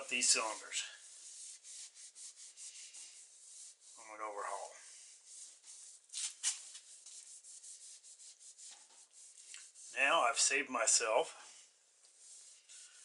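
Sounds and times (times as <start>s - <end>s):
cloth rag wiping metal bores: 0.0s - 13.0s.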